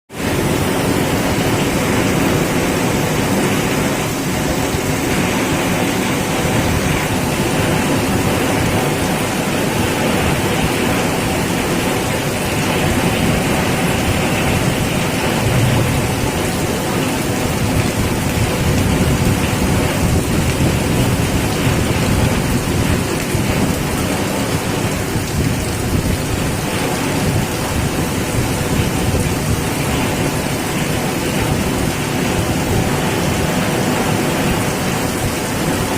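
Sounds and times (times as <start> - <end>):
heavy rain in strong wind: 0.1 - 35.9.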